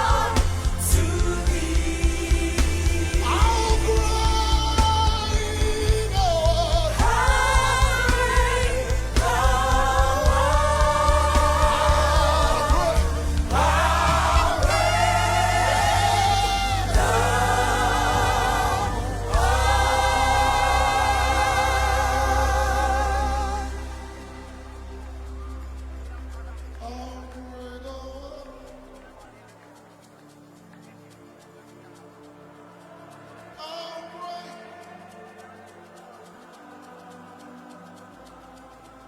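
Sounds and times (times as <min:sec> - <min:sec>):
bass and keyboard accompaniment: 0:00.0 - 0:33.9
voices singing together: 0:00.0 - 0:39.0.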